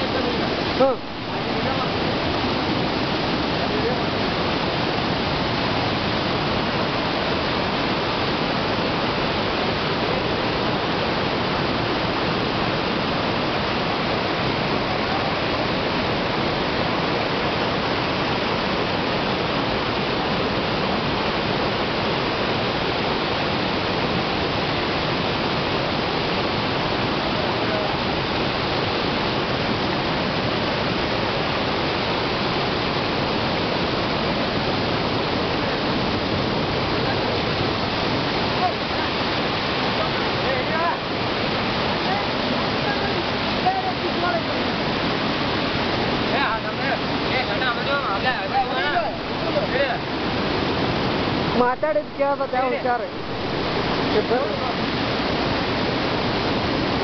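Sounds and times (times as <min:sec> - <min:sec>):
water rushing over boulders: 0:00.0 - 0:57.0.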